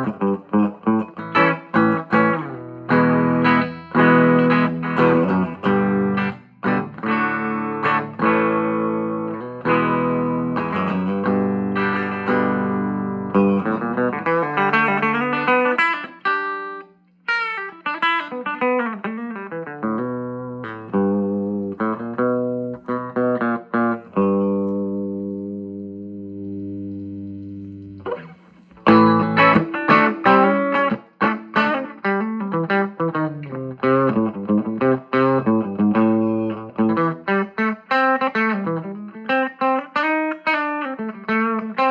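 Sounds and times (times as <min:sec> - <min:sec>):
electric guitar strumming chords: 0:00.0 - 0:41.9.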